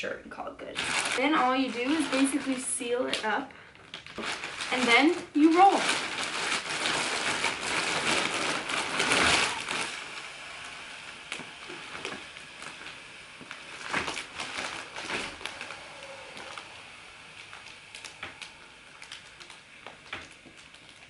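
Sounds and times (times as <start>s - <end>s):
plastic bag crinkling: 0.6s - 21.0s.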